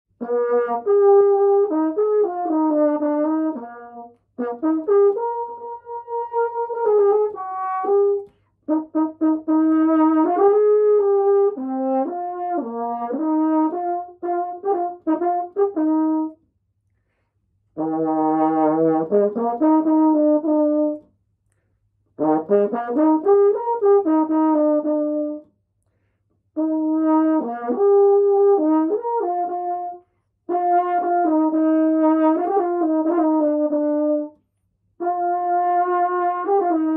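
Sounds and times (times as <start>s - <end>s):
french horn melodic phrases: 0.1s - 16.5s, 17.6s - 25.6s, 26.5s - 36.9s.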